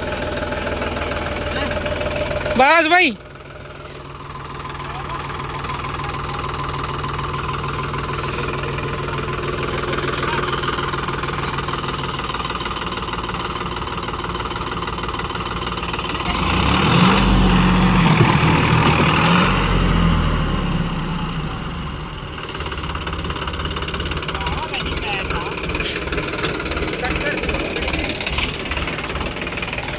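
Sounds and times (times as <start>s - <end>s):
tractor diesel engine revving: 0.0s - 29.9s.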